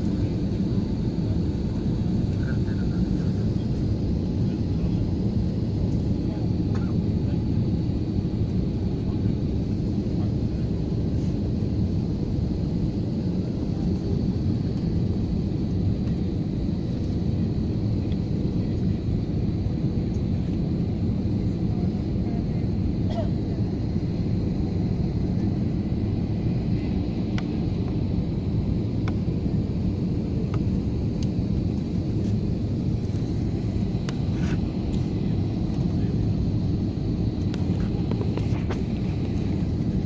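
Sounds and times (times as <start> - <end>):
jet engine cabin rumble: 0.0 - 40.0.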